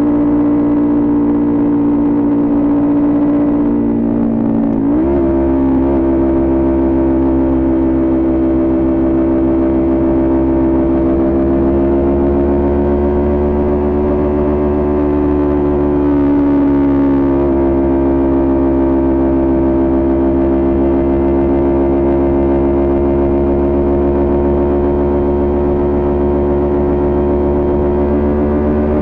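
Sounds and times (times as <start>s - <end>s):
motorcycle engine at high revs: 0.0s - 29.0s.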